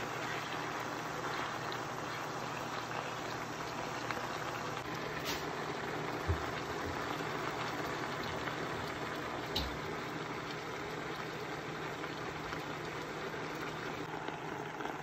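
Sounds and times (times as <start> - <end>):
sauce sizzling in a frying pan: 0.0 - 15.0.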